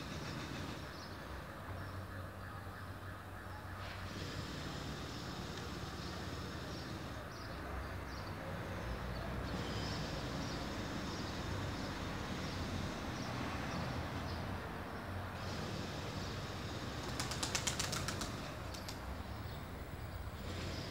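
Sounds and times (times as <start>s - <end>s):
distant city traffic rumble: 0.0s - 20.9s.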